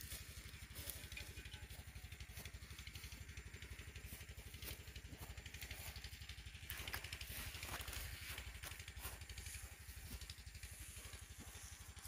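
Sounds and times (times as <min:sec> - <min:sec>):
footsteps through tall grass: 0:00.0 - 0:12.0
low pulsing engine drone: 0:00.0 - 0:12.0.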